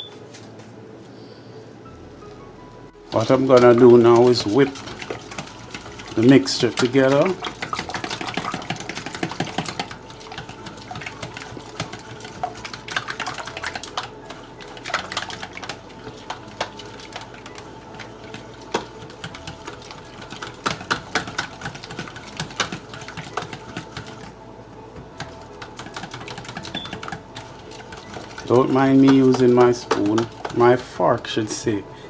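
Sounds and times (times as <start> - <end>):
fork whisking batter in bowl: 3.1 - 24.4, 25.2 - 31.2.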